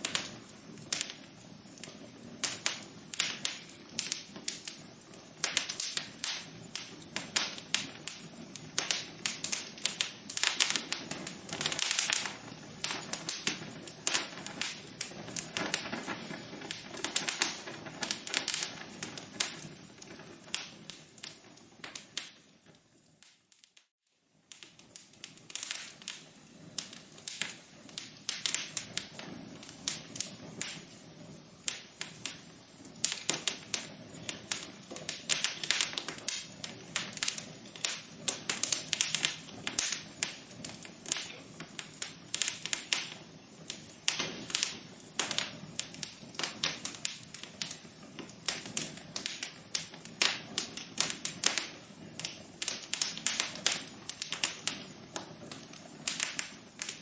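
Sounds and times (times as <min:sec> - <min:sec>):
soft hiss: 0:00.0 - 0:57.0
wood fire crackling: 0:00.0 - 0:57.0.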